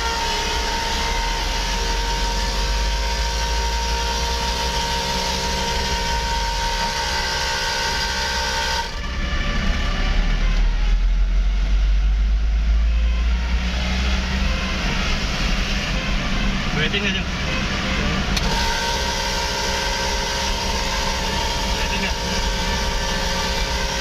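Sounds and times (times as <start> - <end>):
low rumble: 0.0 - 24.0
multi-trumpet air horns chord: 0.0 - 24.0.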